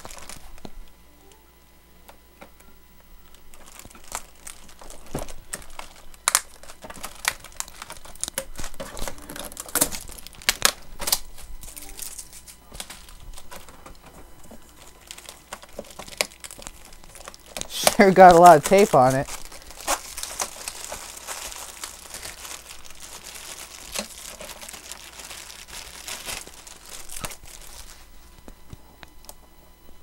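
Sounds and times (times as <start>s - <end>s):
plastic packaging crinkling and tearing: 0.0s - 0.9s, 3.2s - 29.4s.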